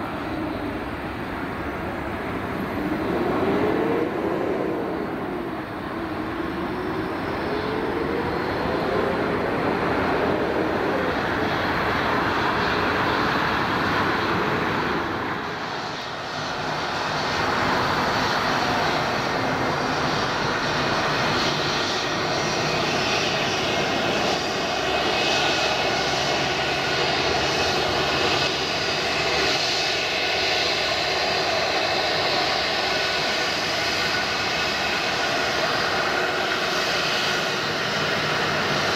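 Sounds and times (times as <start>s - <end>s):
jet airliner engine rumble: 0.0s - 38.9s
jet engine whine: 0.0s - 38.9s.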